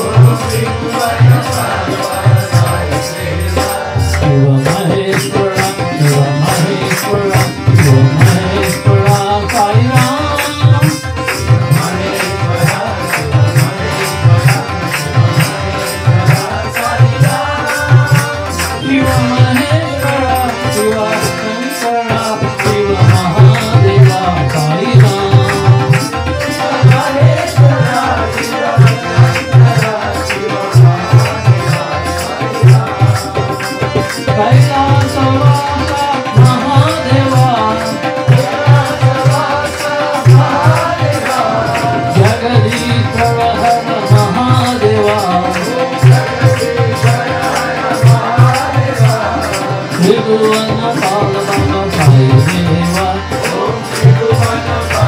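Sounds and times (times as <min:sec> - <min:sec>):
group singing: 0:00.0 - 0:55.0
harmonium: 0:00.0 - 0:55.0
hands clapping: 0:03.6 - 0:15.6, 0:16.2 - 0:36.7, 0:37.4 - 0:55.0.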